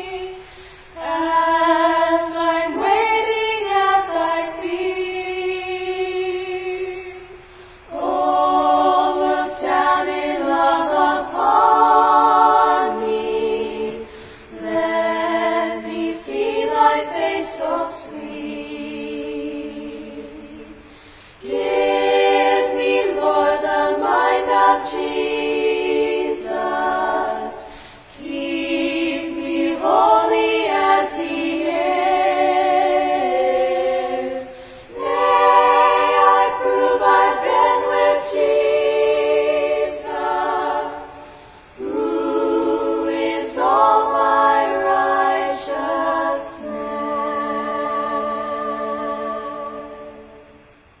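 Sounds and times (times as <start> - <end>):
choir singing a hymn: 0.0 - 51.0.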